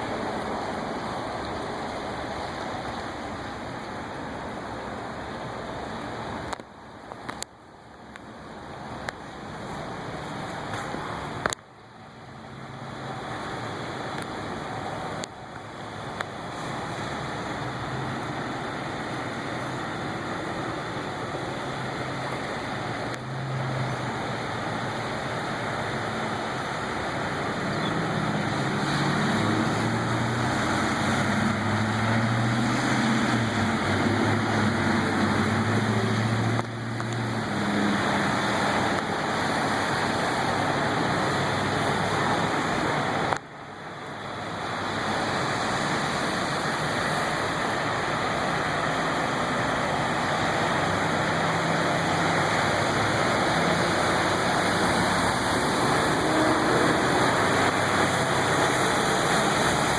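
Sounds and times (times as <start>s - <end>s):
flood water rushing: 0.0s - 59.9s
traffic: 0.0s - 59.9s
vehicle engine: 9.1s - 59.9s.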